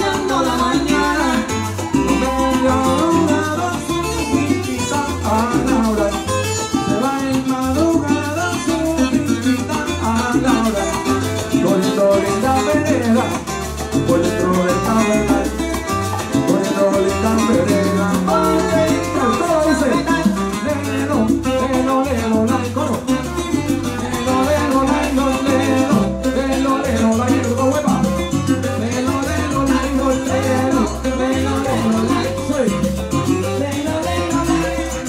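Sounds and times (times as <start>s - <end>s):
light percussion: 0.0s - 35.0s
low bass line: 0.0s - 35.0s
man singing into a microphone: 0.0s - 35.0s
plucked cuatro: 0.0s - 35.0s.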